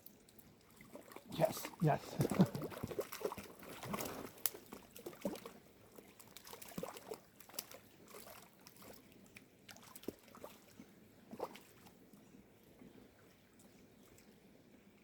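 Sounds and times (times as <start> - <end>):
water splashing and trickling: 0.0 - 14.9.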